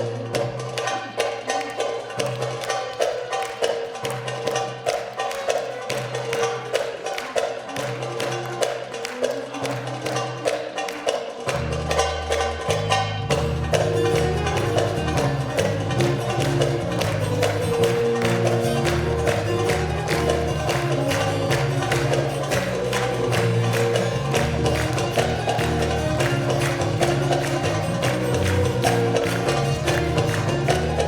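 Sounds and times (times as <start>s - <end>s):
folk music ensemble: 0.0s - 31.0s.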